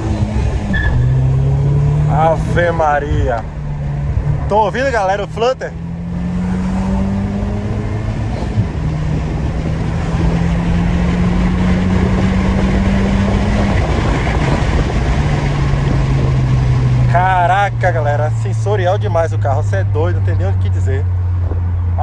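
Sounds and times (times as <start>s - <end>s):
car engine accelerating hard: 0.0s - 22.0s
road and wind noise: 0.0s - 22.0s.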